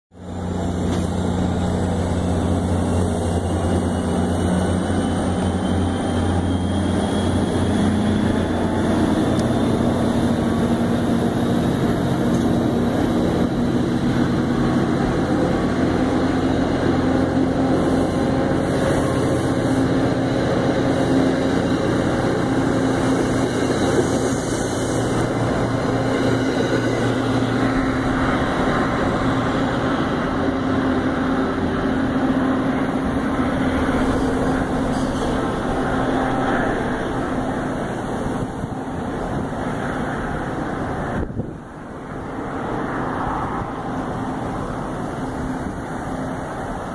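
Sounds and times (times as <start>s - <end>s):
diesel train engine drone: 0.1s - 46.9s
train wheels rumbling on rails: 0.1s - 46.9s.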